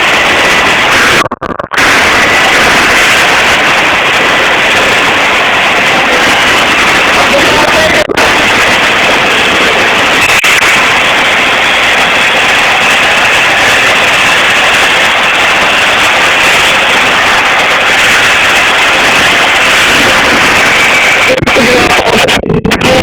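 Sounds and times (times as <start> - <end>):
arc welding crackling sizzle: 0.0 - 23.0.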